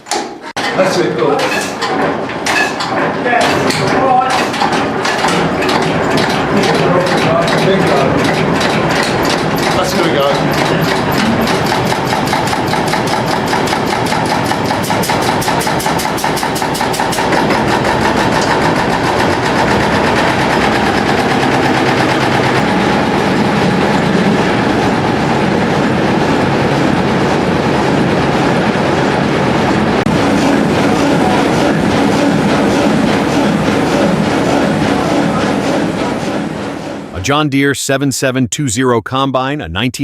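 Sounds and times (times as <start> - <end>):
marine diesel engine running: 4.0 - 37.2.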